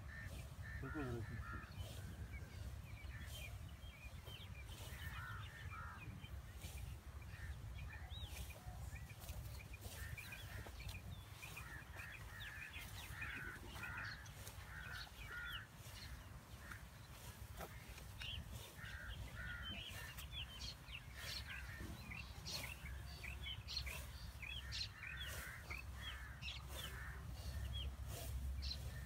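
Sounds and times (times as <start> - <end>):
birds calling and chirping: 0.0 - 29.0.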